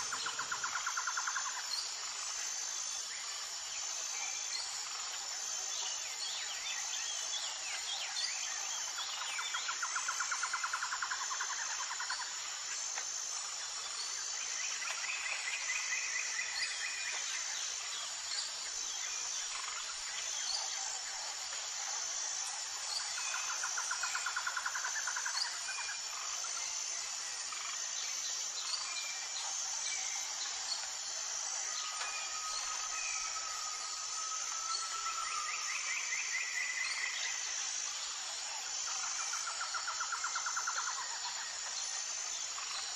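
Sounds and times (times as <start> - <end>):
insect chorus chirring: 0.0 - 42.9.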